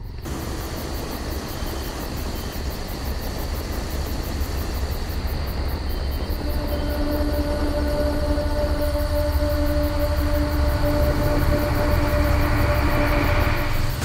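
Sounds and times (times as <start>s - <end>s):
insect chirping: 0.0s - 14.0s
low steady hum: 0.0s - 14.0s.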